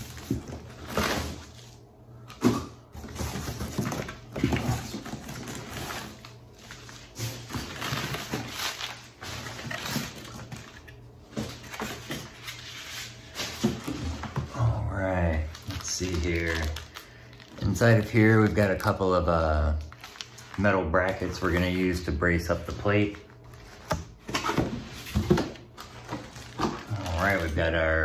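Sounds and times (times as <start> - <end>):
paper and cardboard rustling: 0.0 - 19.0, 19.9 - 28.0.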